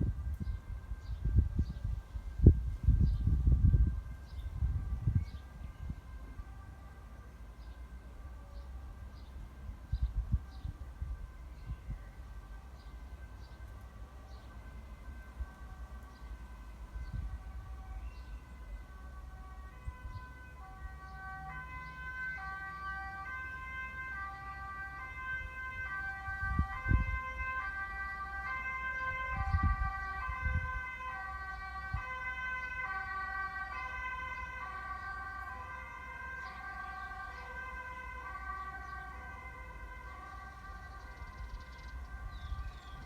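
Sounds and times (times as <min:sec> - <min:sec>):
wind rumble on microphone: 0:00.0 - 0:06.8, 0:08.1 - 0:21.5, 0:24.6 - 0:35.6, 0:38.9 - 0:43.0
two-tone siren: 0:00.0 - 0:43.0.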